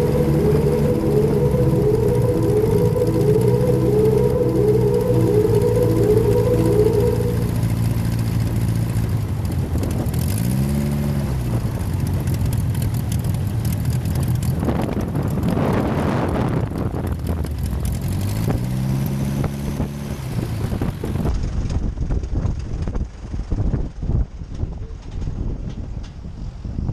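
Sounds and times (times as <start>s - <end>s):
plane engine and propeller: 0.0s - 25.3s.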